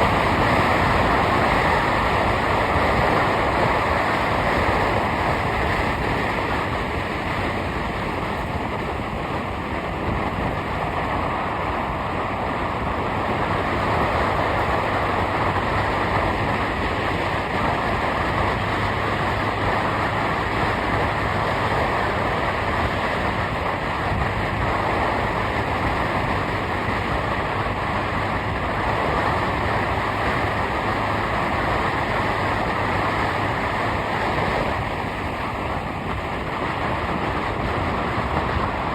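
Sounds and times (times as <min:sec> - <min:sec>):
road and wind noise from vehicle: 0:00.0 - 0:38.9.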